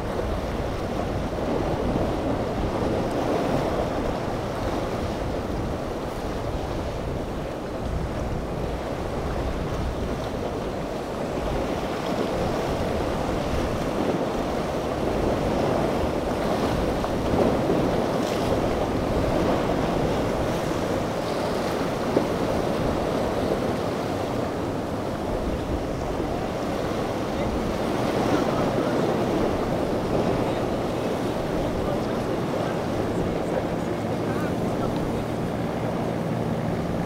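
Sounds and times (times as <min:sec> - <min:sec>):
motorboat running: 0:00.0 - 0:37.0
waves and surf: 0:00.0 - 0:37.0
wind buffeting microphone: 0:00.0 - 0:37.0.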